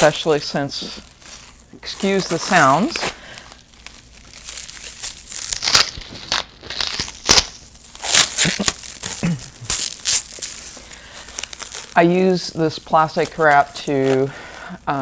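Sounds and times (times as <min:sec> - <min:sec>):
plastic wrap crinkling and tearing: 0:00.0 - 0:15.0.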